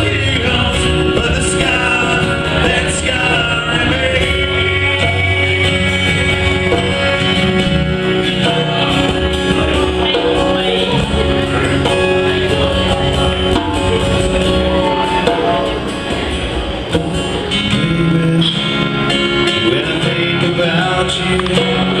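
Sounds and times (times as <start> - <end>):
live country band playing: 0.0 - 22.0.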